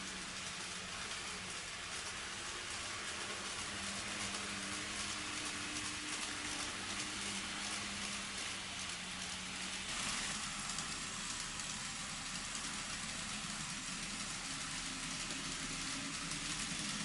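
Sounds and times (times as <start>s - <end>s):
faint electric motor hum: 0.0s - 17.0s
model train wheels rattling: 0.0s - 17.0s.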